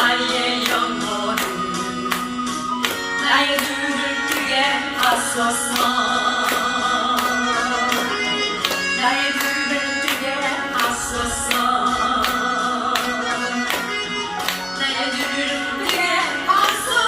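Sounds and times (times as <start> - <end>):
gospel instrumental accompaniment: 0.0 - 17.0.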